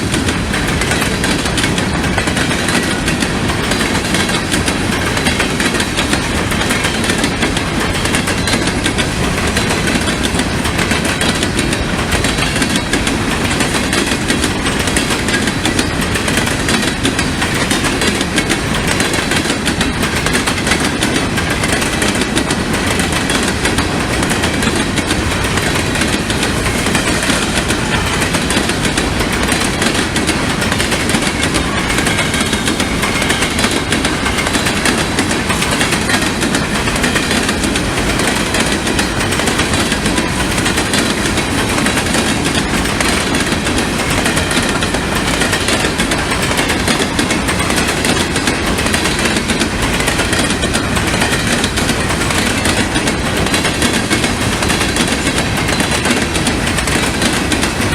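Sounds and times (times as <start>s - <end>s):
train wheels clattering on rails: 0.0s - 57.9s.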